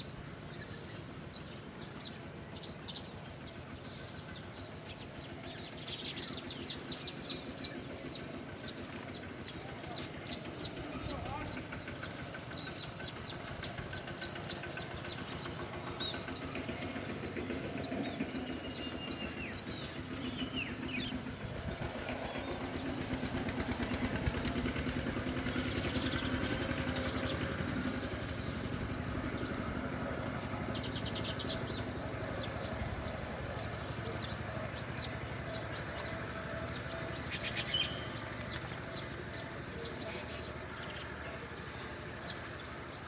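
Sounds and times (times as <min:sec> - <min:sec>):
engine running: 0:00.0 - 0:43.0
small birds chirping: 0:00.0 - 0:43.0.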